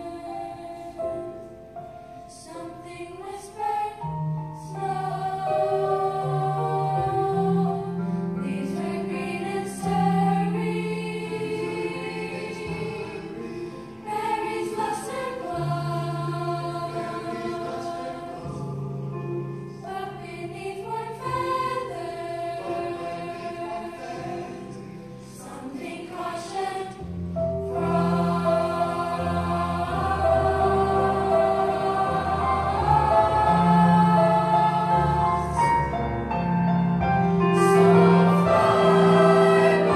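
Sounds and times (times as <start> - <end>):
children's chorus singing: 0.0 - 1.2, 2.4 - 19.0, 19.8 - 35.9, 37.6 - 39.9.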